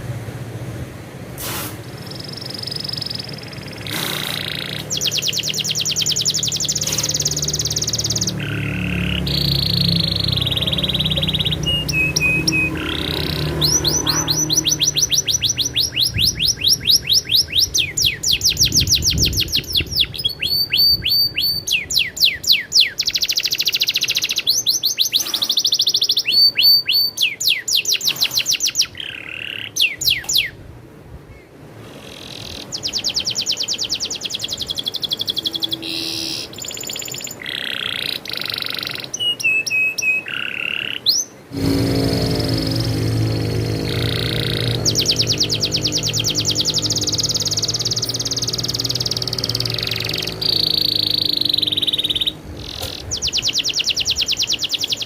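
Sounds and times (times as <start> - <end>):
canary singing trills: 2.0 - 30.6, 31.4 - 55.0.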